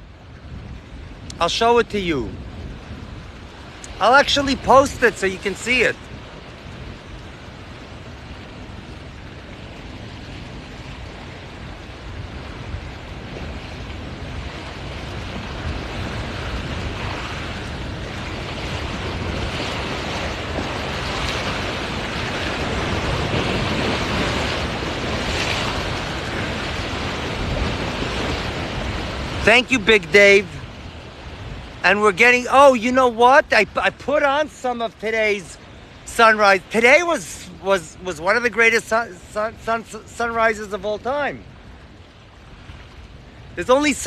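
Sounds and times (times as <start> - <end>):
waves washing: 0.0 - 44.0
wind on microphone: 0.0 - 44.0.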